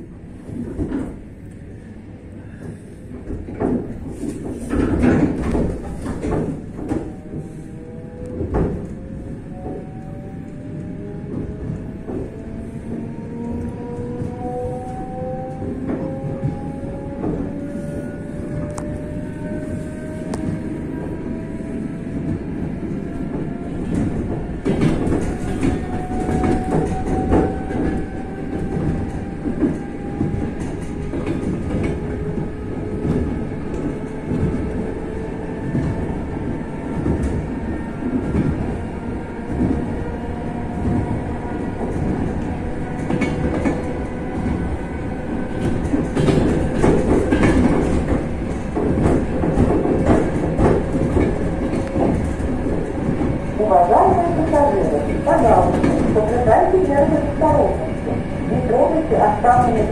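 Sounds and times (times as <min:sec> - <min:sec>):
train rumble and rattle: 0:00.0 - 0:59.9.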